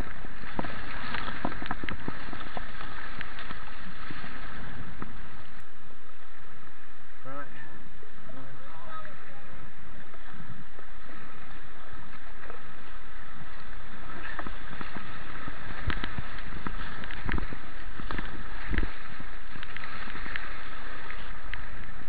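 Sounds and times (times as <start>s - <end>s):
sharp water splashes: 0.0s - 5.7s, 9.1s - 22.0s.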